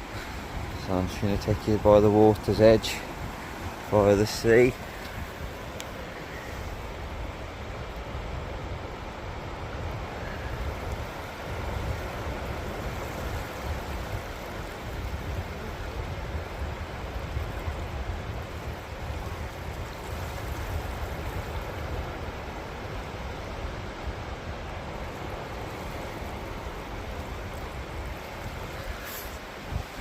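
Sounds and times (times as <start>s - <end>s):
sea waves washing onto sand: 0.0s - 30.0s
wind buffeting microphone: 0.0s - 30.0s.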